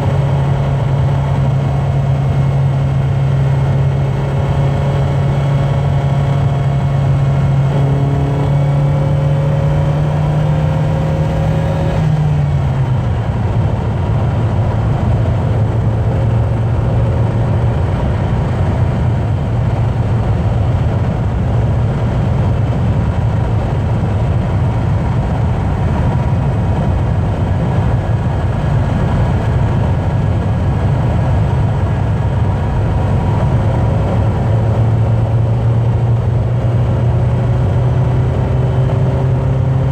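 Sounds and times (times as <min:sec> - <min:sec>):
car engine: 0:00.0 - 0:39.9
road noise: 0:00.0 - 0:39.9.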